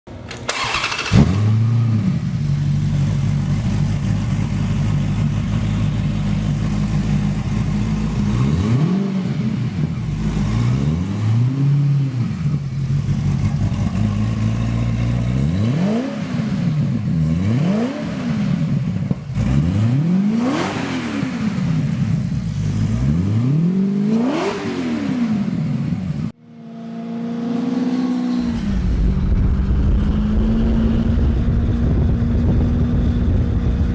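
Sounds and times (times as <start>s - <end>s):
motorcycle engine revving: 0.3s - 33.9s.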